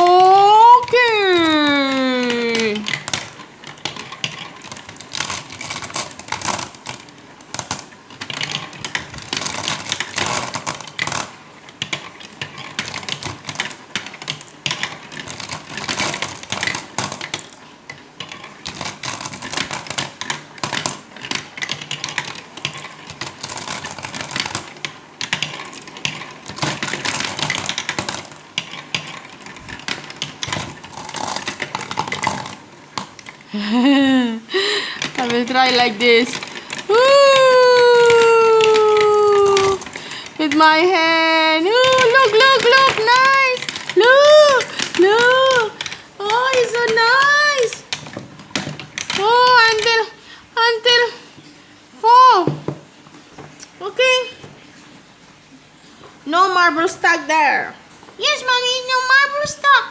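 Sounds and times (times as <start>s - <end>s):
marbles rattling down track: 0.0s - 51.2s.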